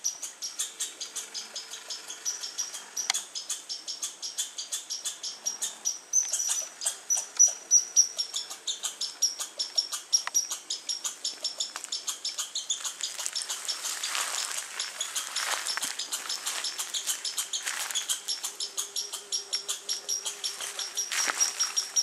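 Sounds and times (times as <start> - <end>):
squirrel chirping: 0.0 - 22.0.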